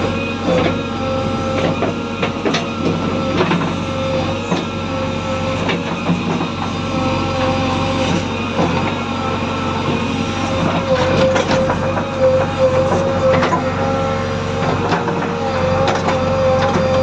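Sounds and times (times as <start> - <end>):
diesel engine running: 0.0 - 17.0
whining tone: 0.0 - 17.0.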